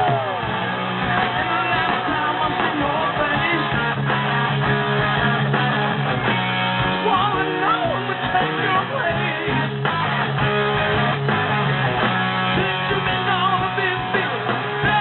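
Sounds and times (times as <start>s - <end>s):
electric guitar: 0.0s - 15.0s
rock band playing live: 0.0s - 15.0s.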